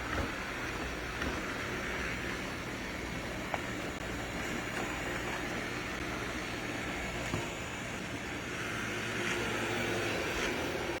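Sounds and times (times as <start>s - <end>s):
robot vacuum running: 0.0s - 11.0s.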